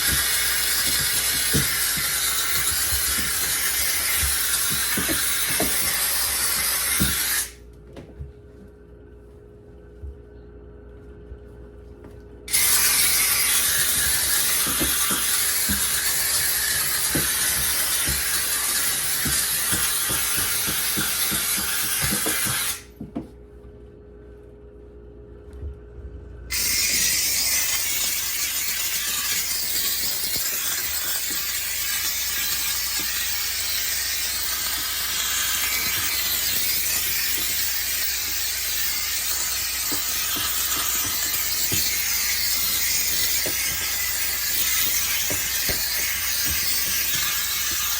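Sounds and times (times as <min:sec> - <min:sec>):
steam cleaner hissing: 0:00.0 - 0:07.6, 0:12.5 - 0:22.9, 0:26.5 - 0:47.9.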